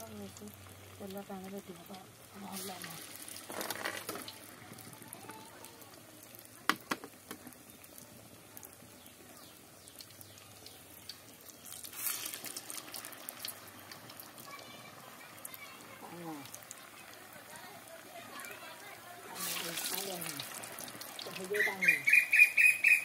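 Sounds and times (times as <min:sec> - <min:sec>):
fritters deep-frying in oil: 0:00.0 - 0:23.0.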